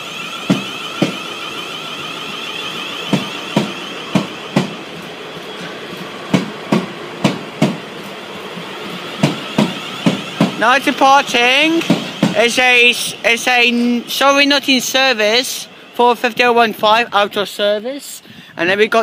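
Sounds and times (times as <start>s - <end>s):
train wheels knocking over rail joints: 0.0s - 16.9s
electric whine: 0.0s - 17.9s.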